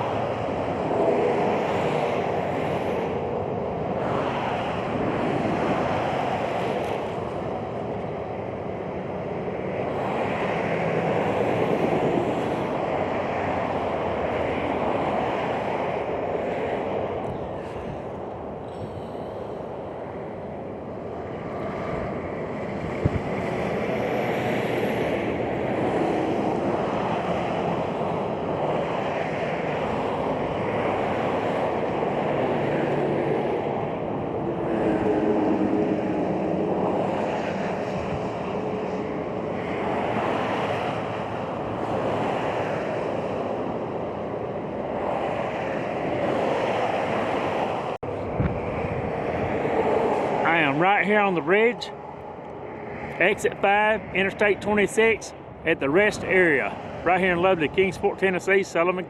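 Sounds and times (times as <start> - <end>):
wind buffeting microphone: 0.0 - 58.8
highway traffic passing: 0.0 - 59.0.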